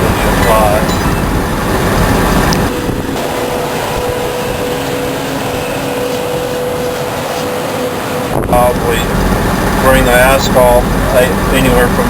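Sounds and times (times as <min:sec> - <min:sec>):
heavy machinery engine noise: 0:00.0 - 0:12.0
steady mechanical whine: 0:00.0 - 0:12.0.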